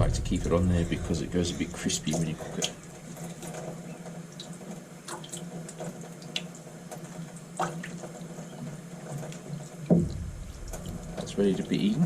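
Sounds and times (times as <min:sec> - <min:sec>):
steady low hum: 0:00.0 - 0:05.7, 0:06.6 - 0:12.0
water running and dripping: 0:00.0 - 0:12.0.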